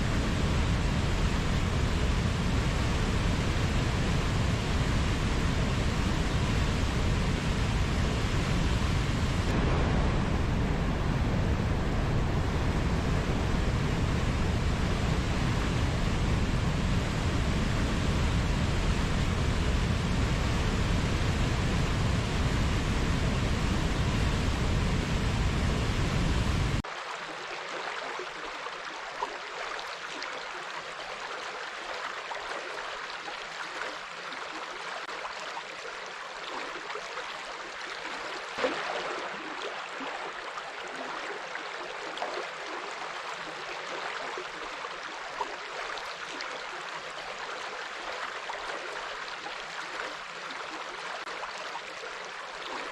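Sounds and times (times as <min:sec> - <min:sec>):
flowing water rush: 0:00.0 - 0:52.9.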